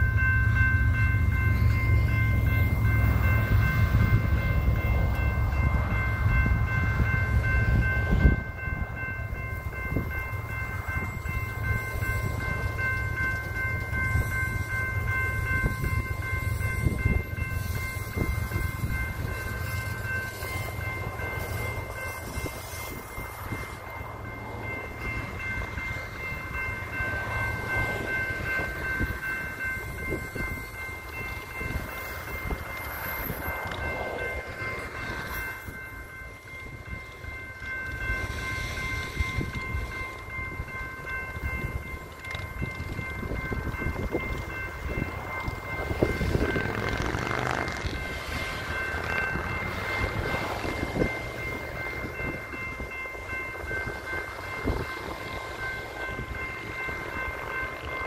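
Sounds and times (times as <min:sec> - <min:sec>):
crossing warning bell ringing: 0:00.0 - 0:58.0
train wheels on rails: 0:00.0 - 0:58.0
wheels clicking over rail joints: 0:06.7 - 0:58.0.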